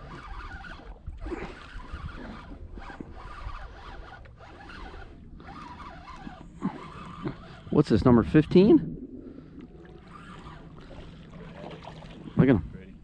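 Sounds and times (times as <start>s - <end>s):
fishing reel whirring: 0.0s - 12.4s.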